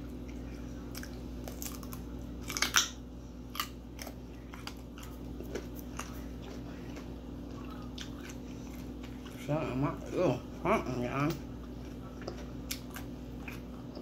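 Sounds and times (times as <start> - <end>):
chewing pizza crunches: 0.0 - 14.0
faint steady hum: 0.0 - 14.0.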